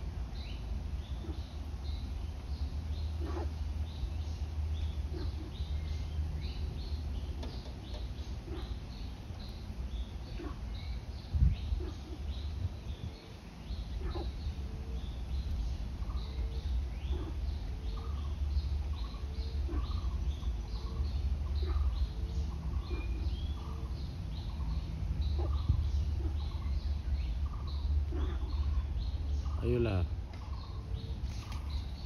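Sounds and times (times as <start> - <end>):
birds chirping: 0.0 - 32.0
steady low rumble: 0.0 - 32.0.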